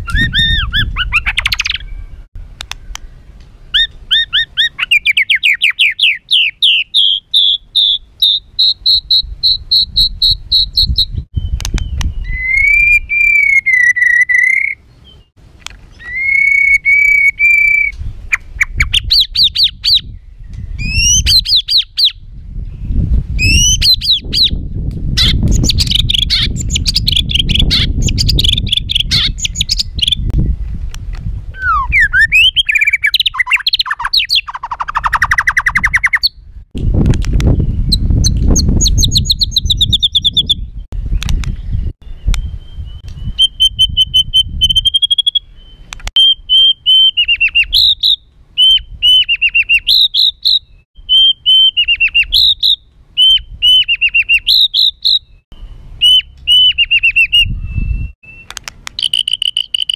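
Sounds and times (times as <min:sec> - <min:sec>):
bird singing harsh trills: 0:00.0 - 0:30.6, 0:31.6 - 0:36.6, 0:37.5 - 0:59.9.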